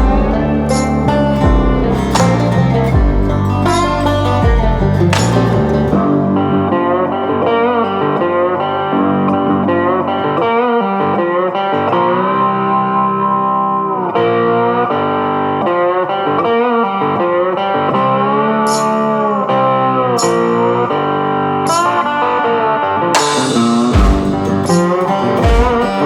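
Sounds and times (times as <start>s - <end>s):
electric guitar bending notes: 0.0s - 26.0s.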